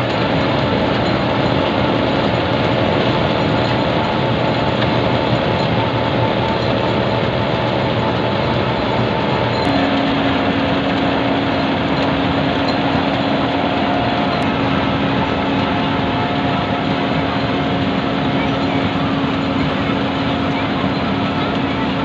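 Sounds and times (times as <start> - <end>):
milling machine grinding asphalt: 0.0 - 22.0.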